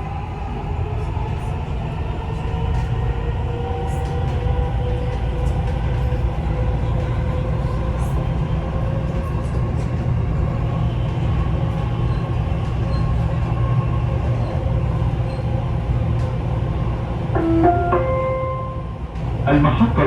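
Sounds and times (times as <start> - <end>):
train rumbling inside carriage: 0.0 - 20.0.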